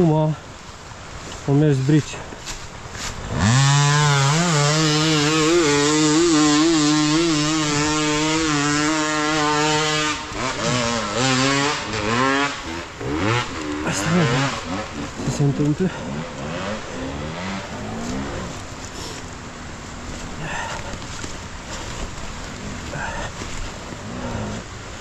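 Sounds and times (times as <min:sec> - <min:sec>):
dirt bike engine revving: 0:03.0 - 0:25.0.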